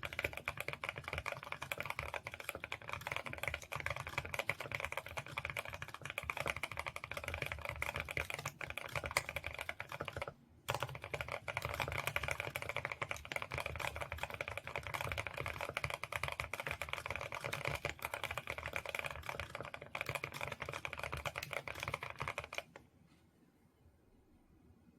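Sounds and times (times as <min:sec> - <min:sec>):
typing on mechanical keyboard: 0:00.0 - 0:22.8.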